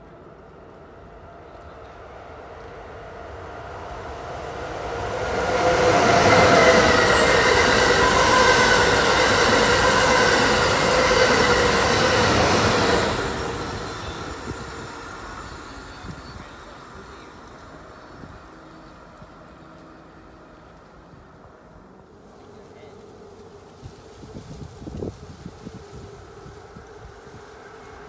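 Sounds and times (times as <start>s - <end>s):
high-speed train passing: 0.0s - 28.0s.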